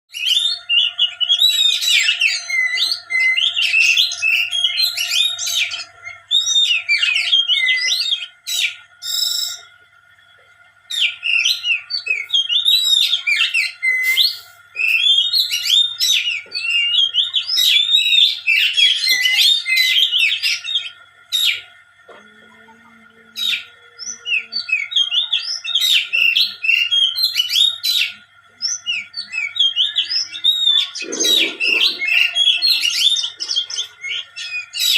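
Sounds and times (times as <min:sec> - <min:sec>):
faint steady whine: 0:00.1 - 0:34.9
songbird chirping: 0:00.1 - 0:34.9.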